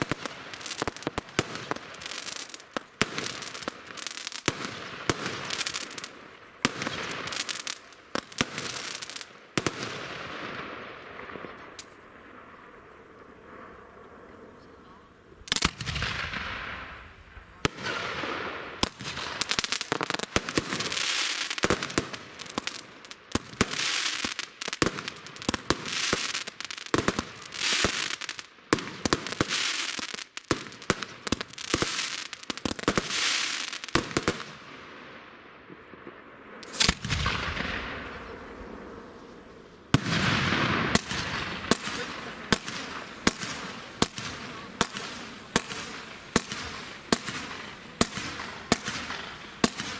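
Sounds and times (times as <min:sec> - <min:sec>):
fireworks hissing crackle: 0:00.0 - 0:34.6, 0:36.4 - 0:49.9
fireworks bangs: 0:00.0 - 0:34.8, 0:35.7 - 0:49.9.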